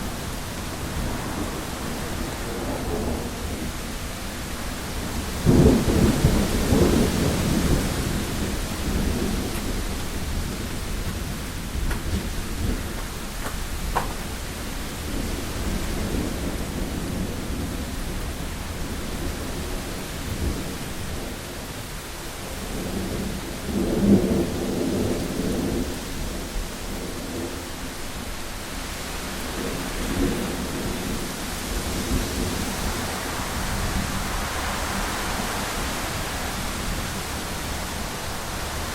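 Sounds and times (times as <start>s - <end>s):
thunder rumbling: 0.0s - 21.4s, 22.5s - 38.9s
rain on a window: 0.0s - 38.9s.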